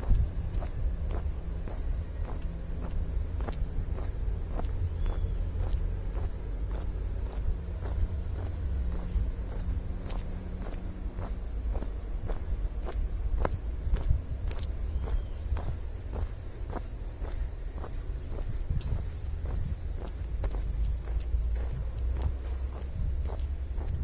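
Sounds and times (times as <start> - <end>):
footsteps walking: 0.0 - 24.0
insects chirring: 0.0 - 24.0.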